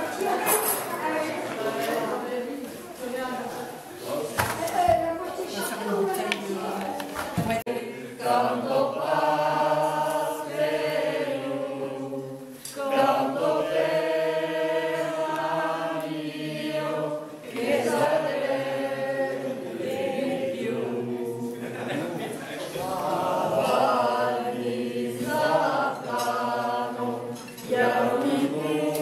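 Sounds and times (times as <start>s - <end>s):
group of men and women singing: 0.0s - 2.8s, 7.3s - 29.0s.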